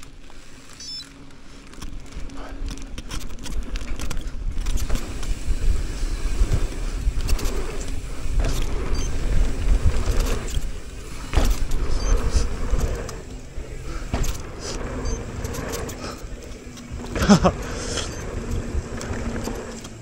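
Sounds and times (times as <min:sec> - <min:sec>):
bike chain and parts rattling: 0:00.0 - 0:20.0
tyre noise on dirt: 0:00.0 - 0:20.0
wind rumble on microphone: 0:03.5 - 0:19.8.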